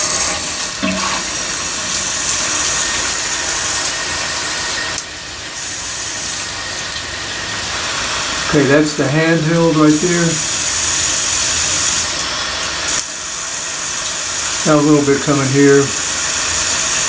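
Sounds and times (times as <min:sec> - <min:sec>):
shower spraying onto tile: 0:00.0 - 0:17.0.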